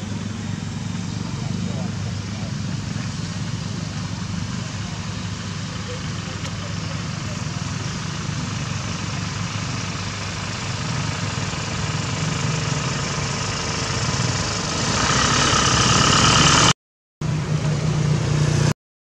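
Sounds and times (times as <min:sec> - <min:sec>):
vehicle engine humming: 0:00.0 - 0:18.8.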